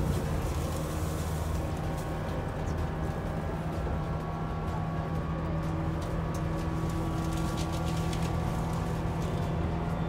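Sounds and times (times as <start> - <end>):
train interior low hum: 0.0 - 10.0.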